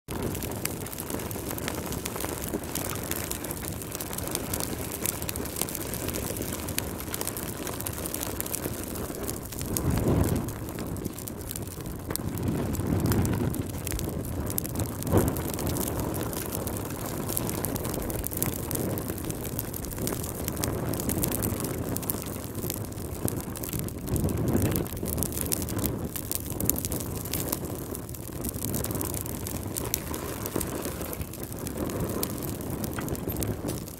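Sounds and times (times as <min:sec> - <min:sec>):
fire crackling: 0:00.1 - 0:33.9
fire flames rushing: 0:00.1 - 0:33.9.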